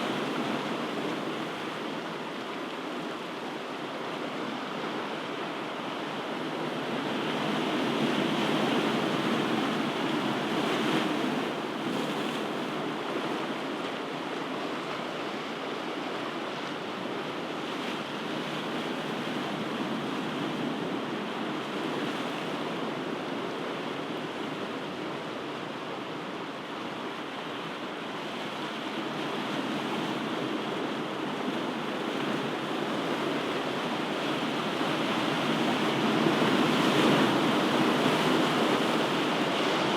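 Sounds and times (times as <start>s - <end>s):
waves washing on shore: 0.0s - 39.9s.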